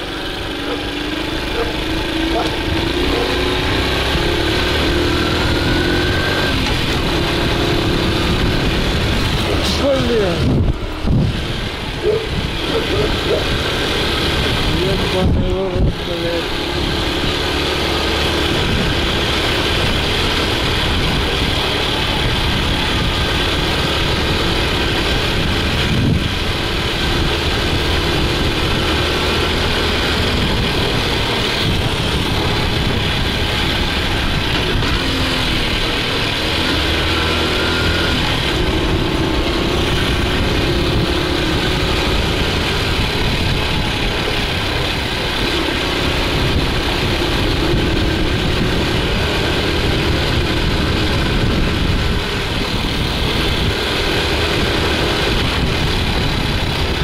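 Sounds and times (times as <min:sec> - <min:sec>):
small motorcycle engine revving: 0:00.0 - 0:57.0.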